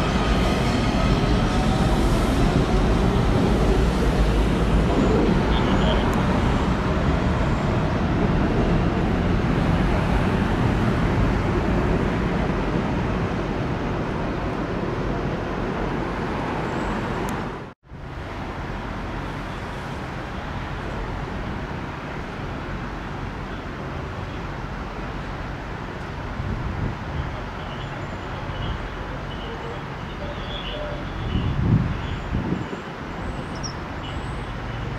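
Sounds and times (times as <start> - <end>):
outdoor traffic noise: 0.0 - 34.9
train rumble on elevated track: 0.0 - 34.9.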